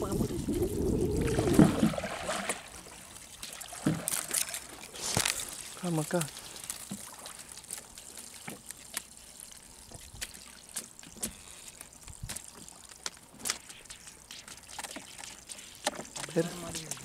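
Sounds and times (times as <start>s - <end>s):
light splashes: 0.0s - 17.0s
water lapping around boat: 0.0s - 17.0s.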